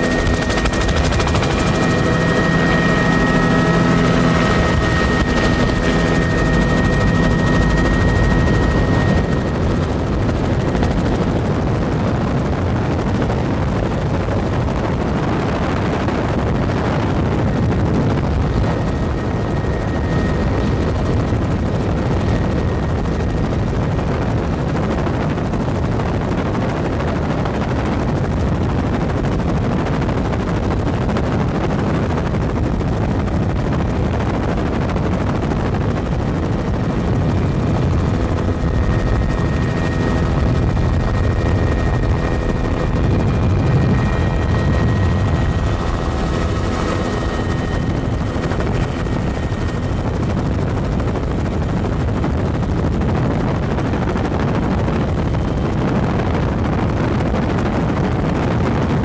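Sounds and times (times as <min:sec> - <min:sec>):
helicopter rotor and engine noise: 0:00.0 - 0:59.0
steady whining tones: 0:00.0 - 0:59.0.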